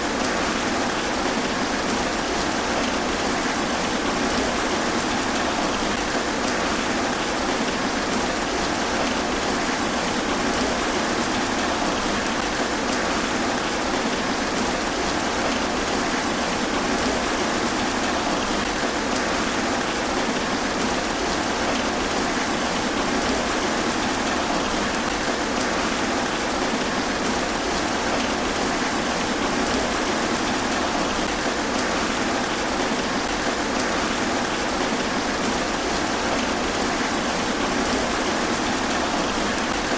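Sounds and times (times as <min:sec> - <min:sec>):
rain falling through trees: 0:00.0 - 0:39.9
raindrops pattering on leaves: 0:00.0 - 0:39.9.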